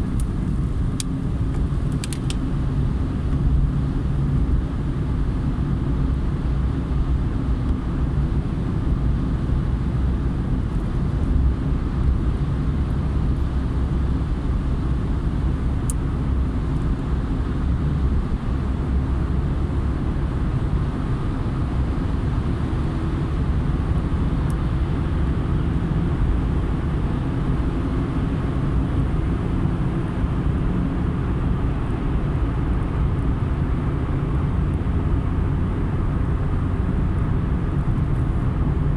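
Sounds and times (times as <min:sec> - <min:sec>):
car engine rumble: 0:00.0 - 0:38.9.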